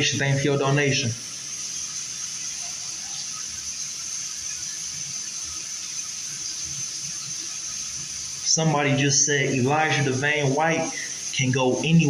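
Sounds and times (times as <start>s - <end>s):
high hiss: 0.0s - 12.0s.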